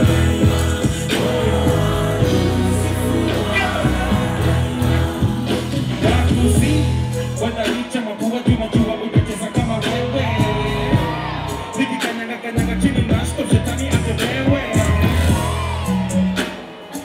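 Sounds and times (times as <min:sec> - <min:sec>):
rapping over a heavy bass beat: 0:00.0 - 0:17.0.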